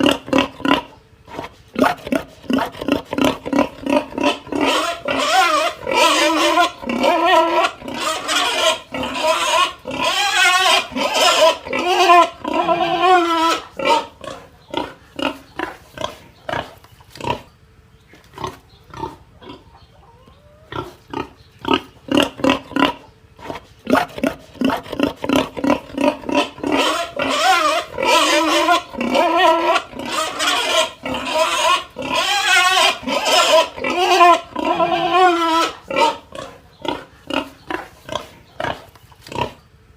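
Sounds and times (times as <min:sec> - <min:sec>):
pig squealing: 0:00.0 - 0:17.5, 0:18.4 - 0:39.6
pig grunting: 0:00.0 - 0:17.6, 0:18.2 - 0:39.7.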